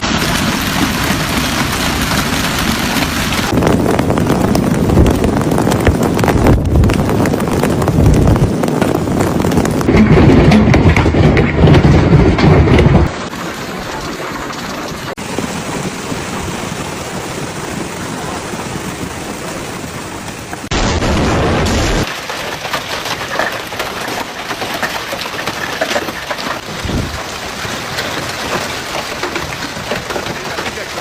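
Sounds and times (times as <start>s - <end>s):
hail and heavy rain falling: 0.0s - 31.0s.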